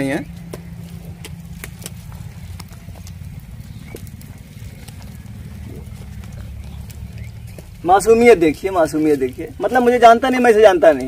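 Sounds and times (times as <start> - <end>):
low rumble: 0.0 - 9.7
cattle hooves clicking: 0.0 - 11.0.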